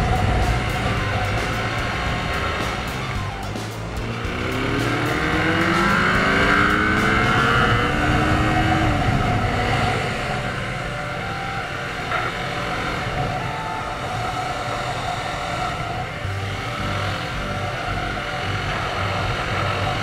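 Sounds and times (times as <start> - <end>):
motorcycle engine: 0.0 - 20.0
wind rush: 0.0 - 20.0.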